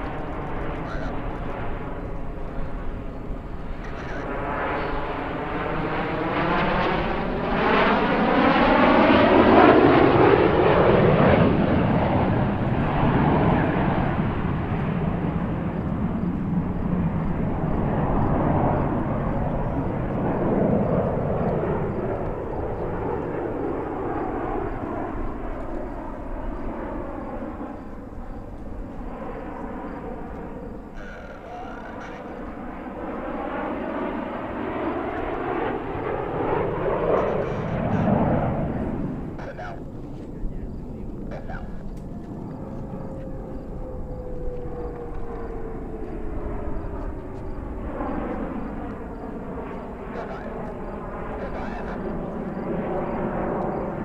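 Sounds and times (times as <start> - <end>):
jets passing overhead: 0.0 - 54.0.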